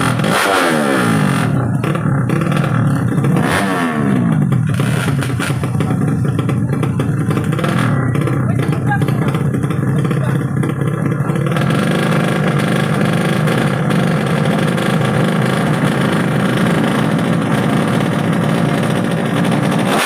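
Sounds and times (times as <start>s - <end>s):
motorcycle engine running loudly: 0.0s - 20.0s.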